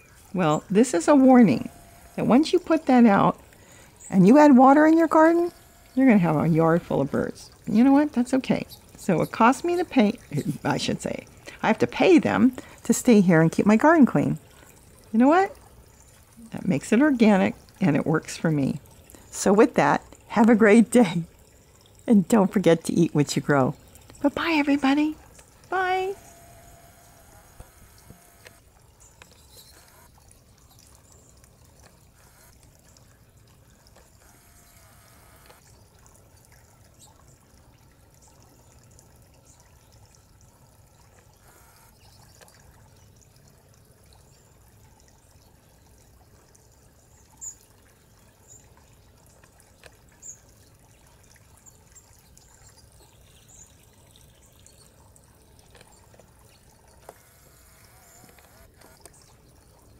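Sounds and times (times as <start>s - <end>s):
fountain water trickling: 0.0s - 59.9s.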